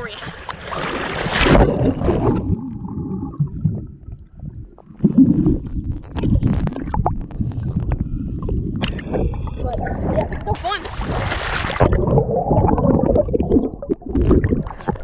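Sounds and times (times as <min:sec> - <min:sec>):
muffled underwater rumbling: 0:00.0 - 0:15.0.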